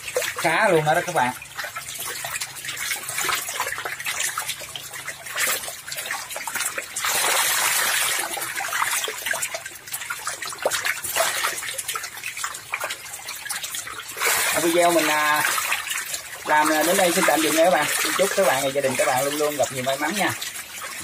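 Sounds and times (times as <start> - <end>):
fish splashing in shallow water: 0.0 - 21.0
rush of water: 0.0 - 21.0.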